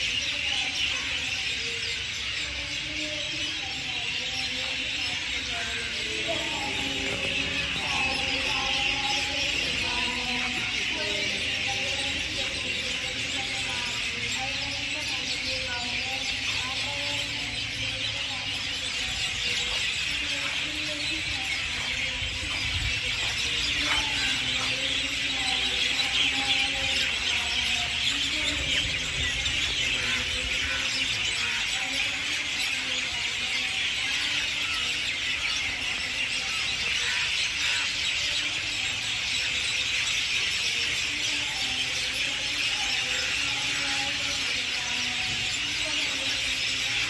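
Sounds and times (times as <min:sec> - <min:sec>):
high-pitched chorus from trees: 0:00.0 - 0:47.0.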